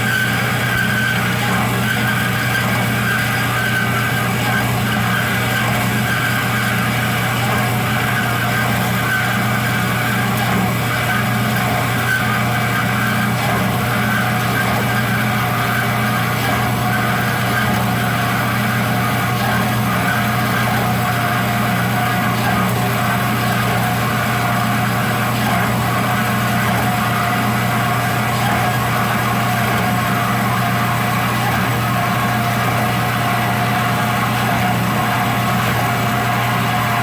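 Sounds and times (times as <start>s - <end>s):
power saw cutting steel: 0.0s - 37.0s.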